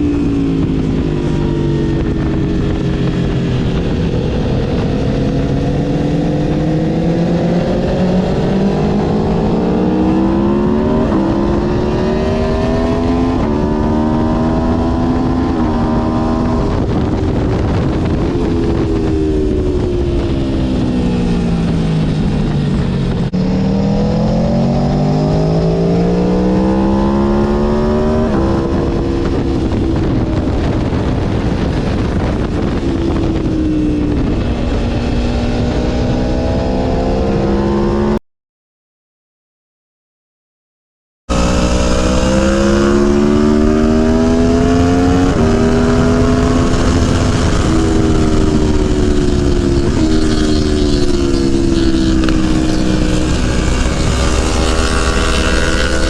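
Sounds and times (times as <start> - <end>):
motorcycle engine at full throttle: 0.0 - 38.2, 41.3 - 56.0
wind rush: 0.0 - 38.2, 41.3 - 56.0.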